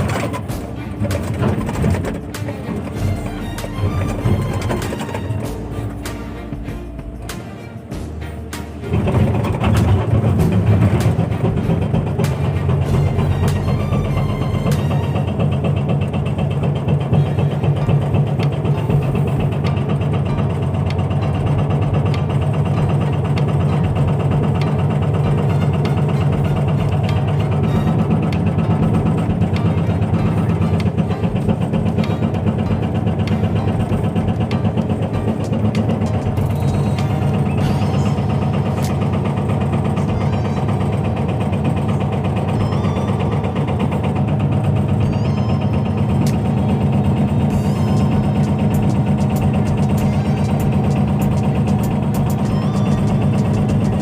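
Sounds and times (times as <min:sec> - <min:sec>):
backhoe diesel engine running: 0:00.0 - 0:54.0
hydraulic breaker hammering rock: 0:00.0 - 0:54.0.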